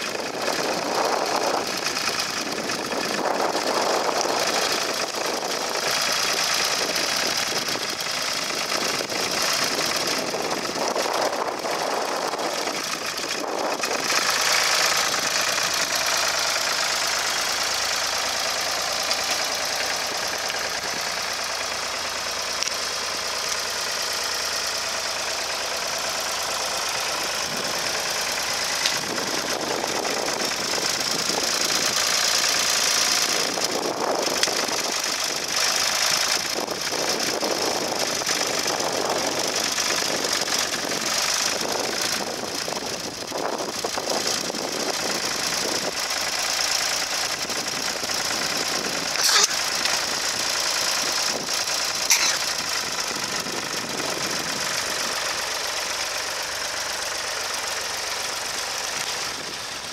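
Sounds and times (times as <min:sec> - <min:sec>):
tractor engine knocking: 0:00.0 - 0:59.9.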